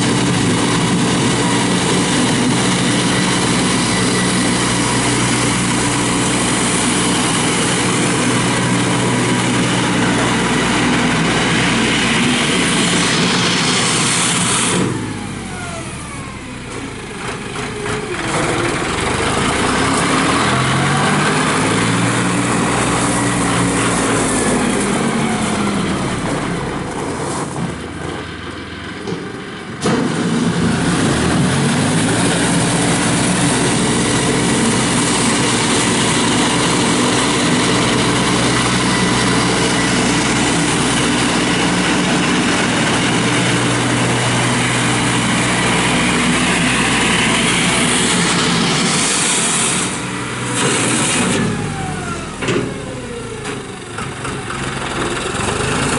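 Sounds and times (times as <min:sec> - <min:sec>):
tractor diesel engine revving: 0:00.0 - 0:55.9.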